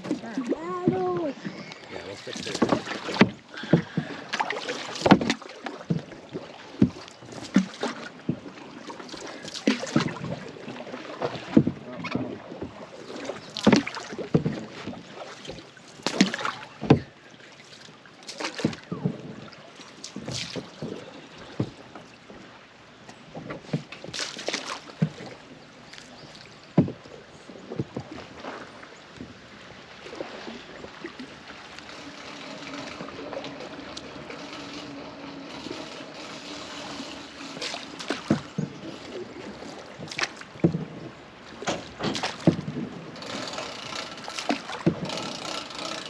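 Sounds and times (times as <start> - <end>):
paddle splashes: 0.0 - 46.0
paddles knocking canoe hull: 0.0 - 46.0.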